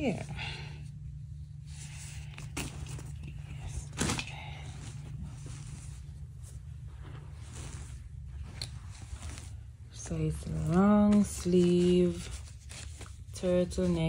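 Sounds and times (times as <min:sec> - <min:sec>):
cloth rustling on carpet: 0:00.0 - 0:14.0
steady low hum: 0:00.0 - 0:14.0.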